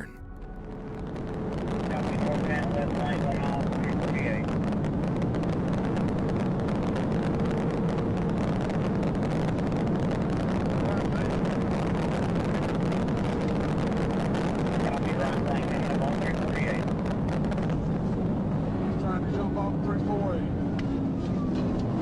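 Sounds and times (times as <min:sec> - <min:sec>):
road noise: 0:00.0 - 0:14.8, 0:16.6 - 0:22.0
car engine rumble: 0:00.0 - 0:22.0.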